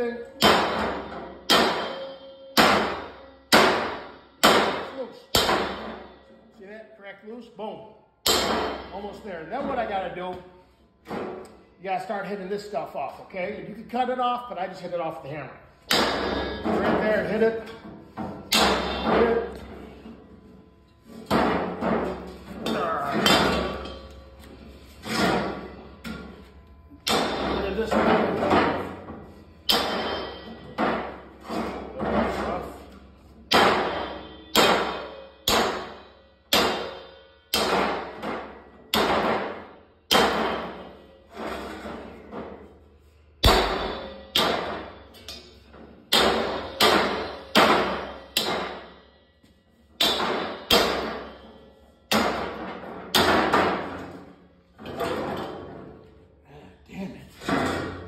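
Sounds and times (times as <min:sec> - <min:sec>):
hammer clanging on steel: 0:00.0 - 0:06.5, 0:08.2 - 0:11.6, 0:15.8 - 0:56.2.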